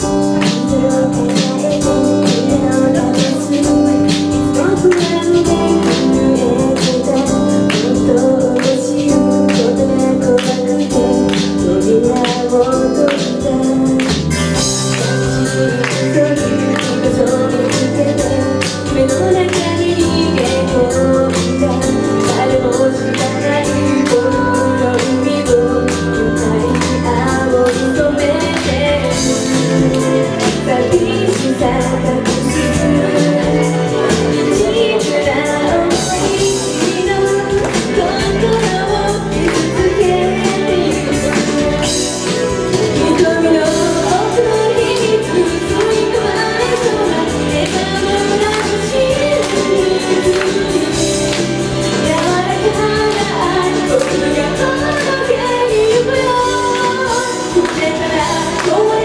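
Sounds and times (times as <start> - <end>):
pop backing music with drum beat: 0.0 - 59.0
woman singing into microphone: 0.0 - 59.0.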